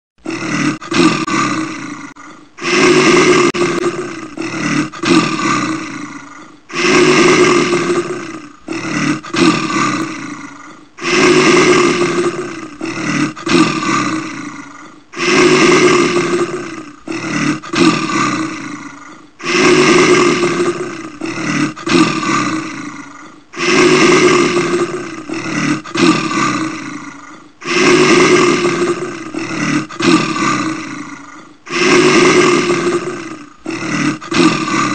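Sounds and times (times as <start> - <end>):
bear roaring: 0.2 - 34.9.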